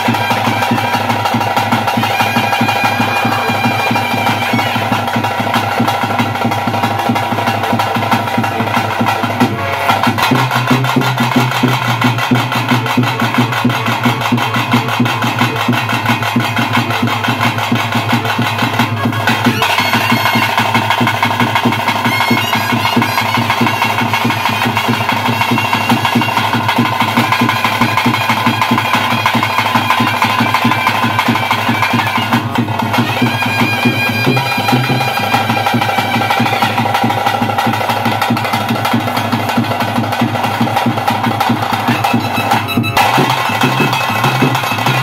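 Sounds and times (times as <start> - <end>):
reed pipe melody: 0.0 - 37.5, 41.6 - 45.0
fast drumming: 0.0 - 45.0.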